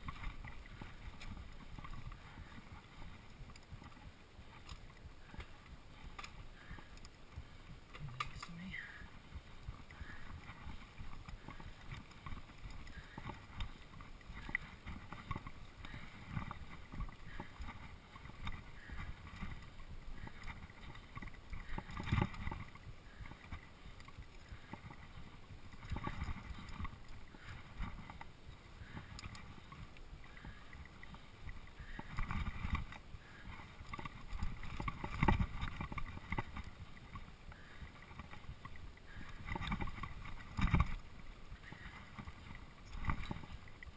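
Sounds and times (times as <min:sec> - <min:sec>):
bike frame rattling: 0:00.0 - 0:07.2, 0:09.4 - 0:43.9
bike jolts: 0:00.0 - 0:43.9
bike tyres rolling on dirt: 0:00.0 - 0:43.9.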